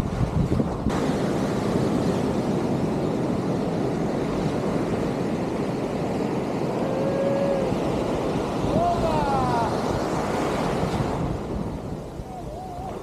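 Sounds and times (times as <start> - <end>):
ocean surf washing on shore: 0.0 - 13.0
wind buffeting microphone: 0.0 - 13.0.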